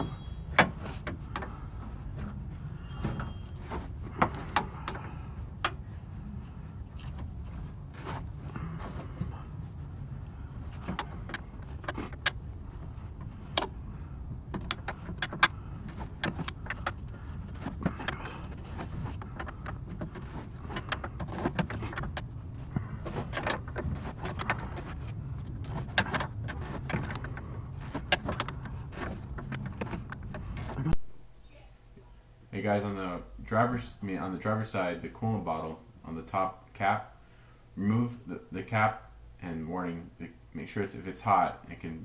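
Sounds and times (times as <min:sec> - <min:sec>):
steady low rumble: 0:00.0 - 0:38.6.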